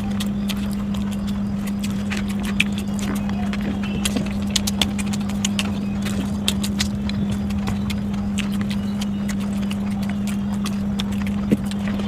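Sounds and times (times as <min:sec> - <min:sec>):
mouth clicks and smacks: 0:00.0 - 0:12.0
person chewing food: 0:00.0 - 0:12.0
steady low hum: 0:00.0 - 0:12.0.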